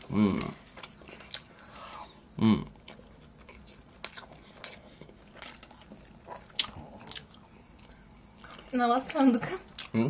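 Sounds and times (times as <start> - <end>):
chewing with smacks: 0.0 - 2.1, 2.7 - 10.0.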